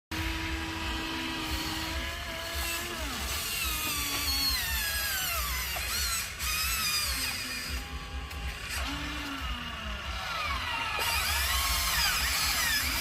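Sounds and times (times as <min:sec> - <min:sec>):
toy truck motors whining: 0:00.1 - 0:13.0.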